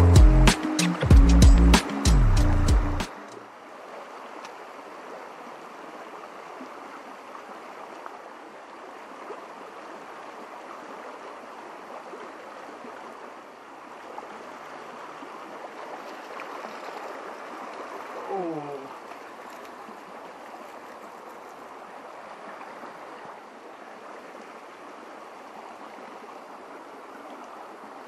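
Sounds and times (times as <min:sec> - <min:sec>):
creek water flowing over stones: 0:01.9 - 0:28.0.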